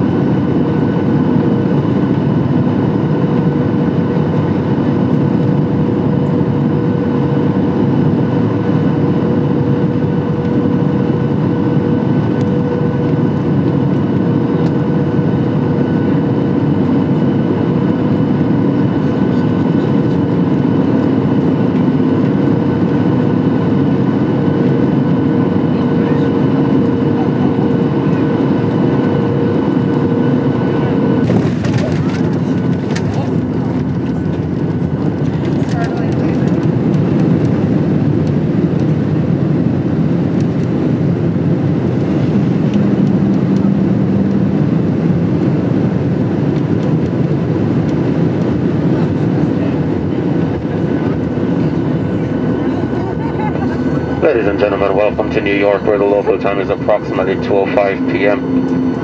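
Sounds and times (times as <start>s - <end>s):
aircraft engine hum: 0.0s - 59.0s.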